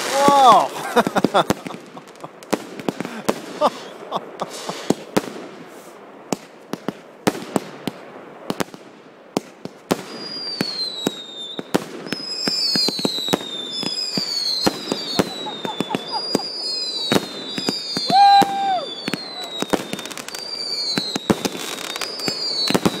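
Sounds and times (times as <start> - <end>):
fireworks bangs and crackles: 0.0 - 23.0
whistling fireworks: 0.0 - 23.0.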